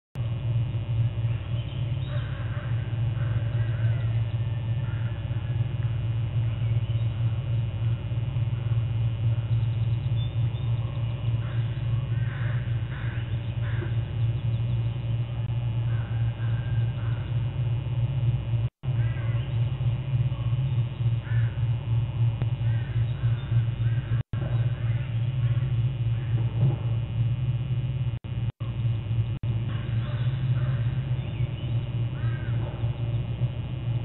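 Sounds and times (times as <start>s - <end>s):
steady low hum: 0.2s - 34.0s
birds calling: 1.2s - 17.7s, 18.8s - 26.9s, 29.6s - 34.0s.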